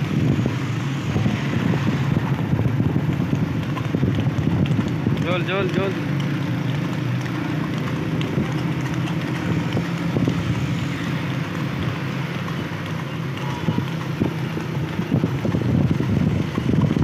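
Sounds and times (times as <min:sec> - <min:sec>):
vehicle engine running: 0:00.0 - 0:17.0
wind buffeting microphone: 0:00.0 - 0:17.0.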